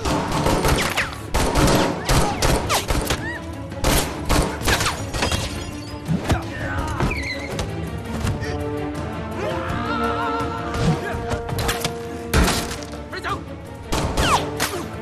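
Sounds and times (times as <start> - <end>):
action score music: 0.0 - 15.0.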